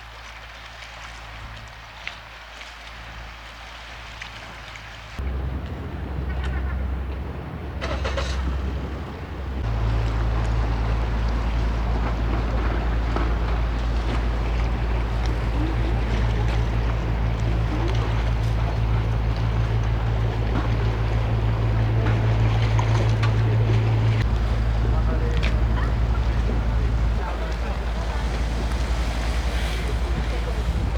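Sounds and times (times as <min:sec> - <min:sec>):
low engine drone: 0:05.0 - 0:30.9
noisy rush: 0:05.2 - 0:30.9.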